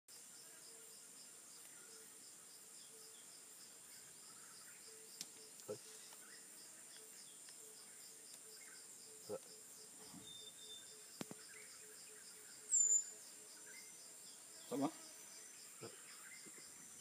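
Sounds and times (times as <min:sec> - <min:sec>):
insects calling: 0:00.1 - 0:17.0.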